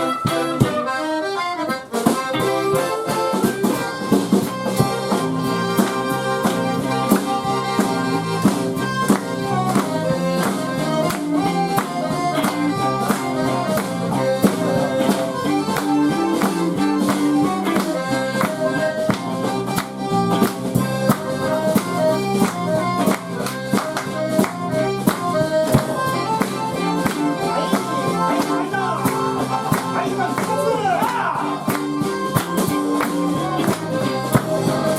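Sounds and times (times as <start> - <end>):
accordion: 0.0 - 34.9
live band playing: 0.0 - 34.9.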